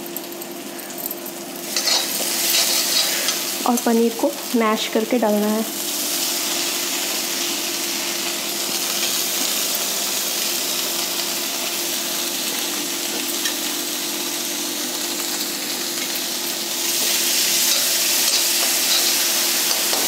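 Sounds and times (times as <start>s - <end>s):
stuffing sizzling in oil: 0.0s - 20.0s.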